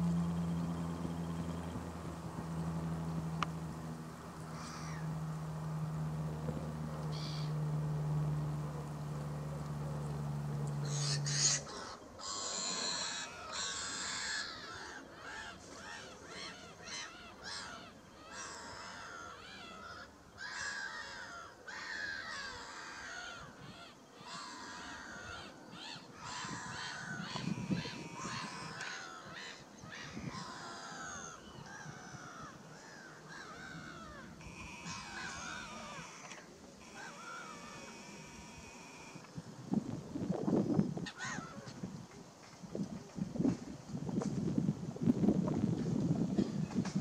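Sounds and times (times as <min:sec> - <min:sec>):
birds calling harshly: 0:00.0 - 0:08.1, 0:08.8 - 0:39.3, 0:41.0 - 0:41.8
low steady hum: 0:00.0 - 0:47.0.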